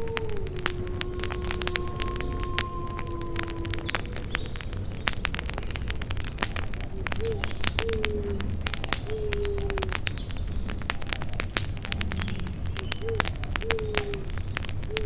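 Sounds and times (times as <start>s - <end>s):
campfire crackling and popping: 0.0s - 15.0s
low hooting calls: 0.0s - 15.0s.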